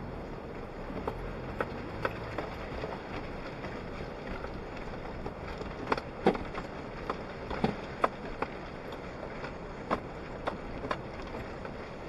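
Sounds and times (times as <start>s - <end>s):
vehicle rumble off-road: 0.0s - 12.0s
knocks and rattles over bumps: 0.7s - 12.0s.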